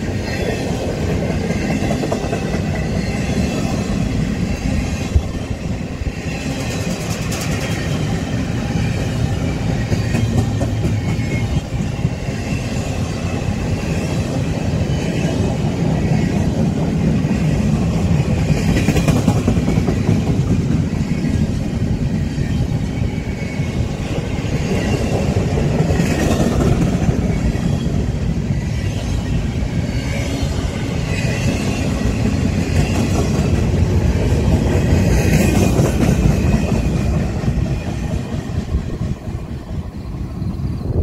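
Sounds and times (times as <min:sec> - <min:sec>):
freight train wheels rumbling: 0:00.0 - 0:41.0.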